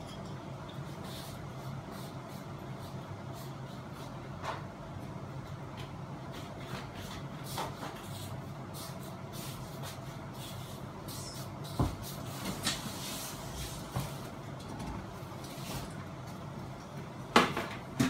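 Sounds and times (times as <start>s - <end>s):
ceiling fan humming: 0.0s - 18.0s.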